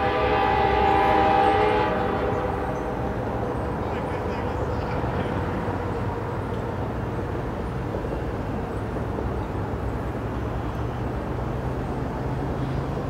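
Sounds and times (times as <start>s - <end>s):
diesel engines rumbling: 0.0s - 13.0s.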